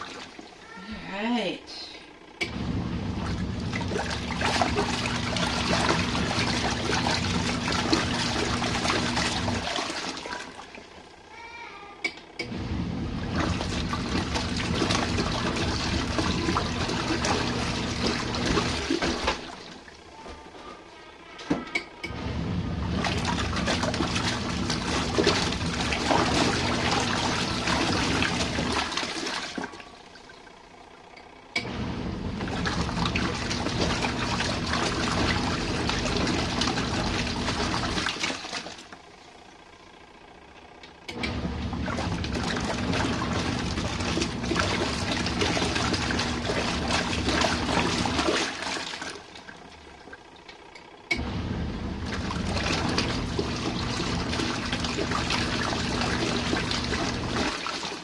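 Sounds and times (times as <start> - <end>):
water churning: 0.0 - 1.5, 2.4 - 11.2, 12.5 - 20.5, 22.1 - 30.6, 31.6 - 39.4, 41.2 - 58.0
washing machine motor humming: 0.0 - 58.0.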